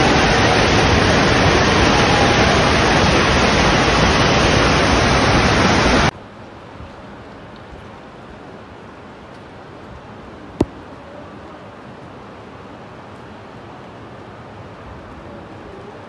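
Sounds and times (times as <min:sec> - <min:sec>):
floodwater rushing down a street: 0:00.0 - 0:16.0.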